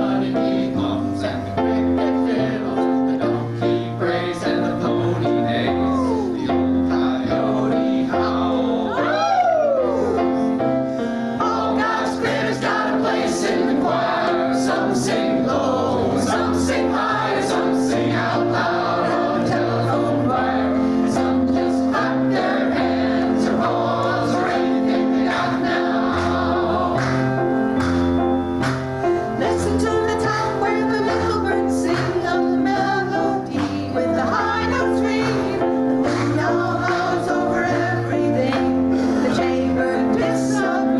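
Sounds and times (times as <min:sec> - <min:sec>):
voices singing with accompaniment: 0:00.0 - 0:10.5, 0:11.2 - 0:40.9.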